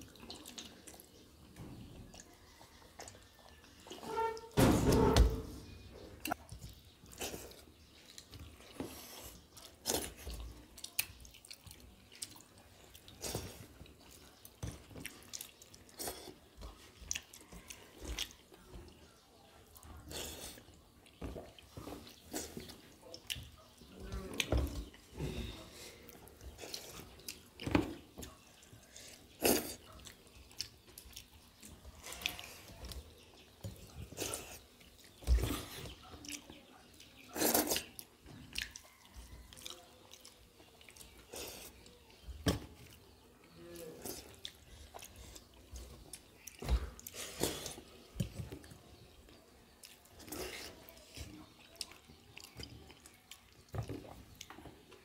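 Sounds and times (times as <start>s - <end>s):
chewing: 0.0s - 4.6s, 5.7s - 55.0s.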